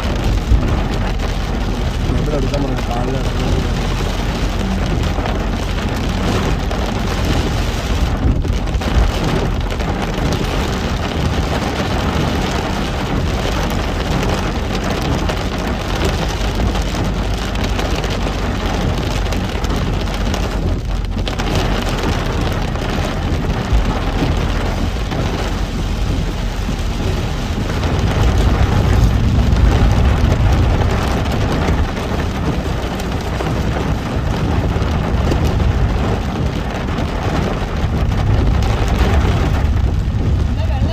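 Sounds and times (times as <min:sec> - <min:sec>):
car driving rumble: 0:00.0 - 0:40.9
heavy rain on car: 0:00.0 - 0:40.9.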